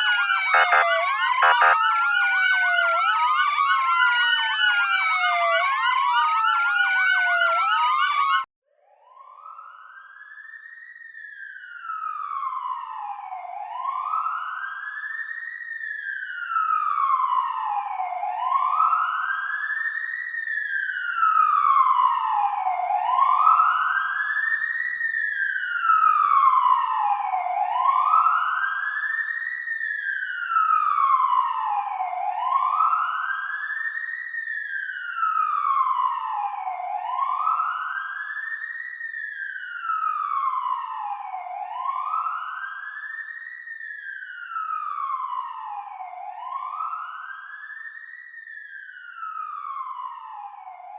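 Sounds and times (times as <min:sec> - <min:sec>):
emergency sirens wailing: 0:00.0 - 0:08.5, 0:09.4 - 0:50.9.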